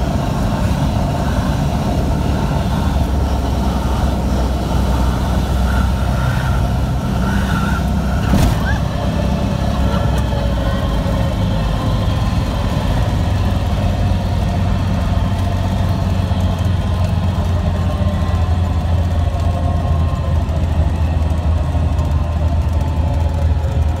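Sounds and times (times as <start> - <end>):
plane engine and propeller running: 0.0 - 24.0.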